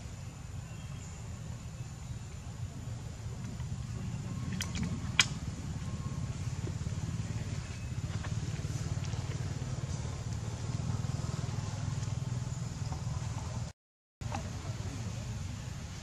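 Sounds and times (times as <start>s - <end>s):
low engine drone: 0.6s - 13.7s.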